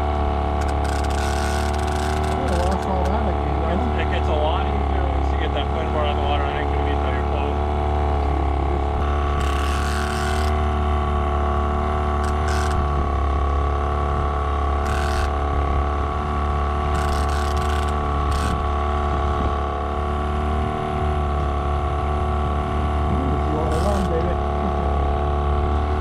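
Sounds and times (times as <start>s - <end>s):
boat motor droning: 0.0s - 26.0s.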